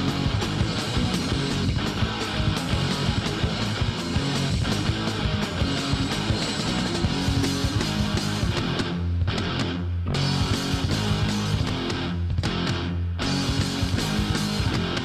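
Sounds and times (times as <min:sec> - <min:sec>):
punk band playing instrumental: 0:00.0 - 0:15.0.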